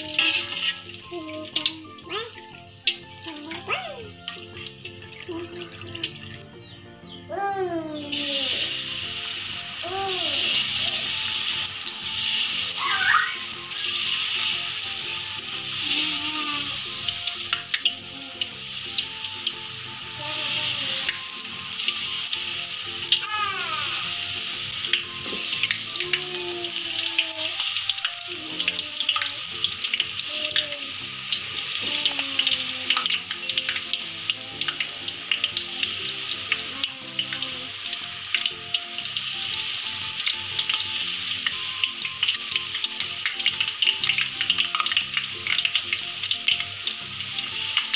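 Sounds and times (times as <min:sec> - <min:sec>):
deep-frying oil sizzling and crackling: 0:00.0 - 0:07.0, 0:07.9 - 0:47.9
background music: 0:00.0 - 0:47.9.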